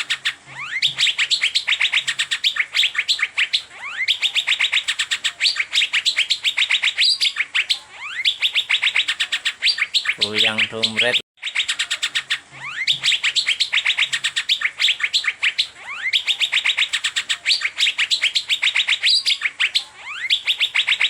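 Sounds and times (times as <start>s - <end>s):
bird chattering chirps: 0.0s - 21.0s.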